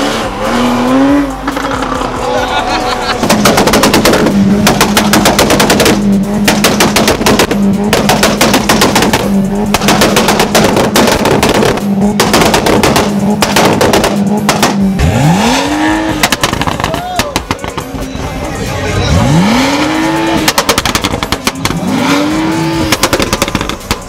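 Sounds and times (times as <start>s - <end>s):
car engine on rev limiter: 0.0s - 16.9s, 18.8s - 24.0s
rapid exhaust bangs: 3.1s - 24.0s.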